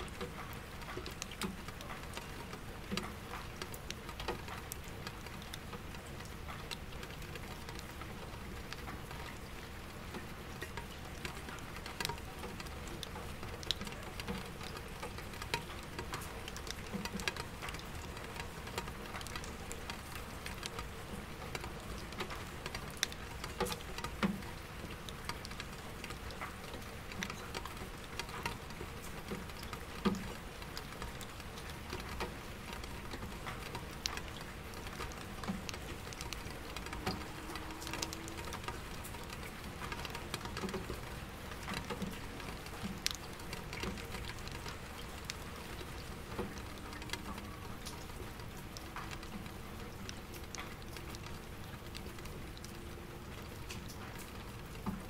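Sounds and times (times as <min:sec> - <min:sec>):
rain tapping on glass and bucket: 0:00.0 - 0:55.0.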